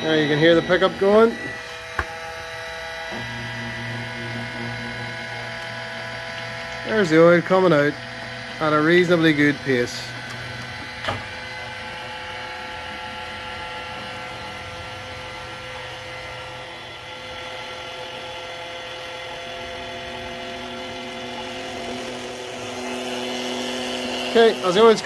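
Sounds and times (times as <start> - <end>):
electric pump whining: 0.0 - 25.0.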